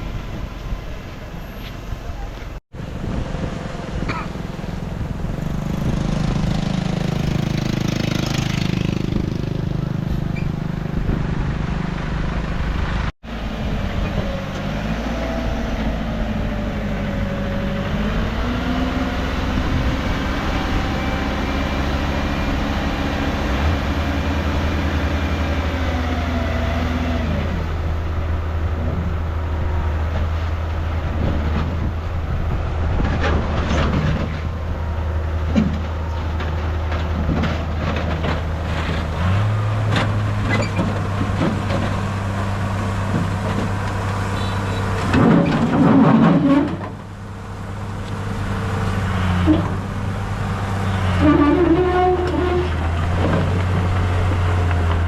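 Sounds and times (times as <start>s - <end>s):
heavy machinery diesel engine: 0.0s - 55.0s.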